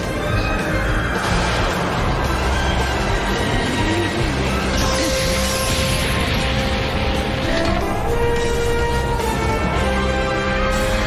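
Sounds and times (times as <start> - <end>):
soundtrack music with held notes: 0.0 - 11.0.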